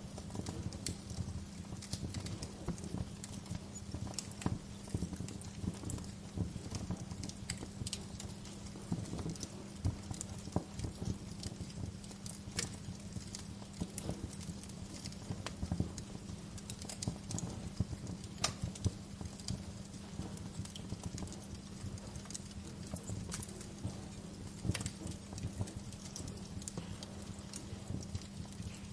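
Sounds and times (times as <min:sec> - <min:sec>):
soft steady hiss: 0:00.0 - 0:28.9
wood fire crackling: 0:00.0 - 0:28.9.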